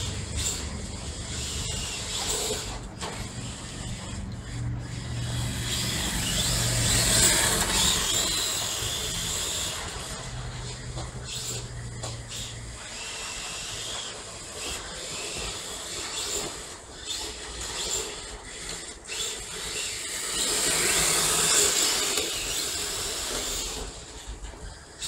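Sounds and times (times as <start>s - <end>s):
toy car tyres hissing on stone: 0.0s - 25.0s.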